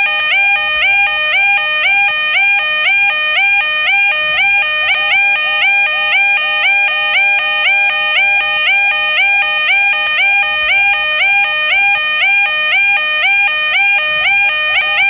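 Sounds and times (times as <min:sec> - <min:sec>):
two-tone level crossing alarm: 0:00.0 - 0:15.0.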